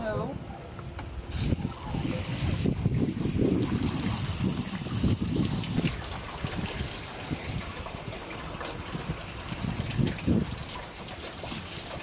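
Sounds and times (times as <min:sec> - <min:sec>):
wind rumbling on microphone: 0:01.1 - 0:12.0
hose water spraying on deck: 0:01.3 - 0:12.0.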